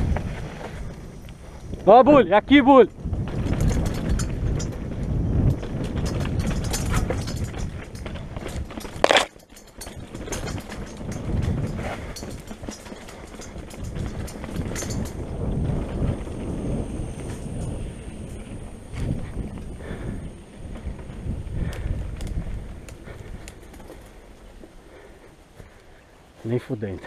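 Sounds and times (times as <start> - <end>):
bike clattering over bumps: 0.0 - 26.1
bike tyres grinding over stones: 0.0 - 27.0.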